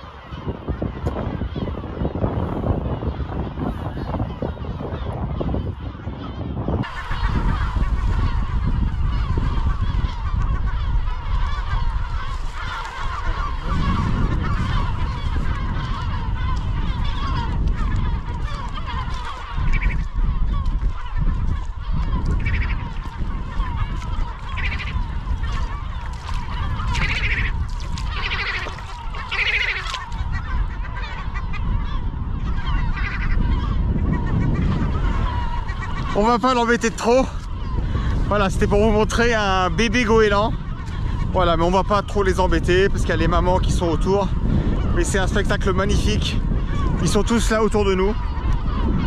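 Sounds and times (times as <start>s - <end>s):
gulls calling harshly: 0.0s - 49.0s
wind rumbling on microphone: 0.0s - 49.0s.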